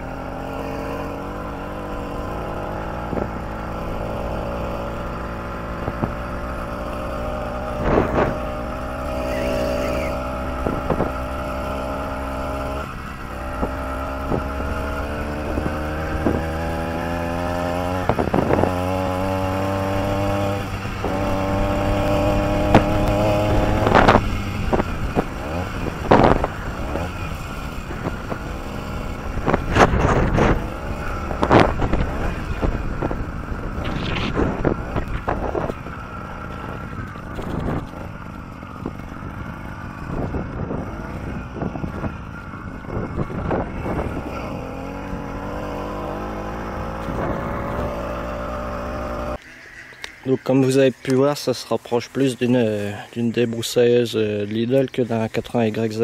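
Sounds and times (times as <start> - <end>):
two-stroke bicycle engine buzzing: 0.0 - 50.3.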